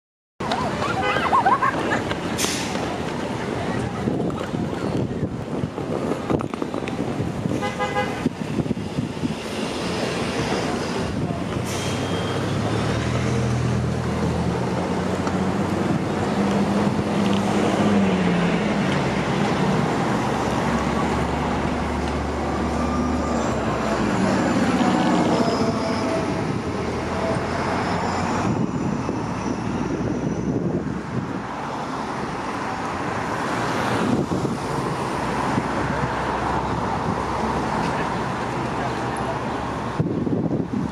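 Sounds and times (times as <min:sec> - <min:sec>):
bus drivetrain hum passing: 0:00.4 - 0:40.9
street traffic noise: 0:00.4 - 0:40.9.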